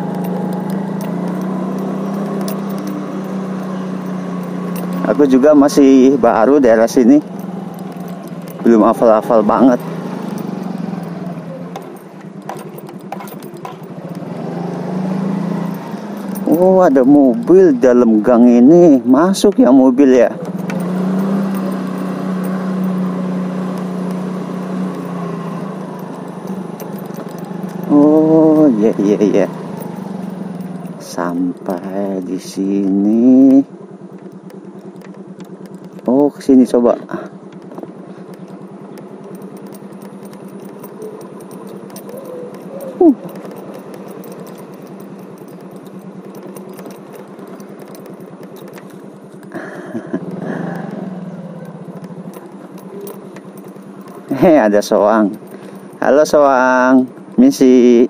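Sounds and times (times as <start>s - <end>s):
motor scooter engine running: 0.0s - 58.0s.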